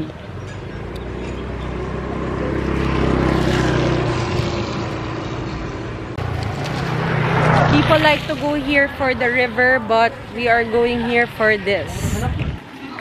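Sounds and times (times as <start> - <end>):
engine passing by: 0.0 - 12.7
engine approaching: 0.0 - 12.8.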